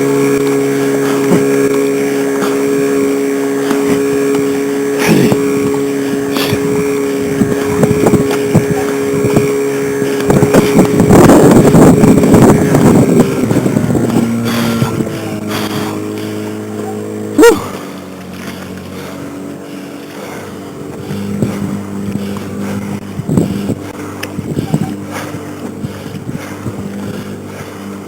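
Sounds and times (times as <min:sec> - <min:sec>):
outboard motor running: 0:00.0 - 0:28.0
water splashing: 0:00.0 - 0:28.0.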